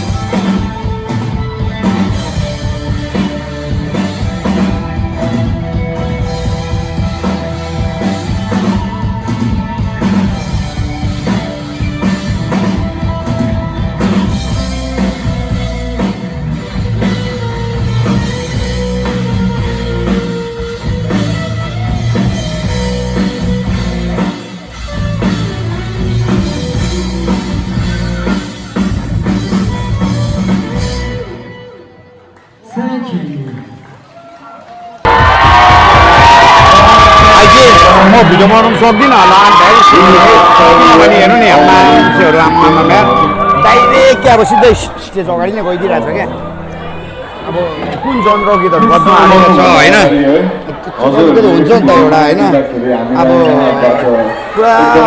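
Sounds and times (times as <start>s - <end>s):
rock band playing live: 0.0s - 32.5s, 35.0s - 52.4s.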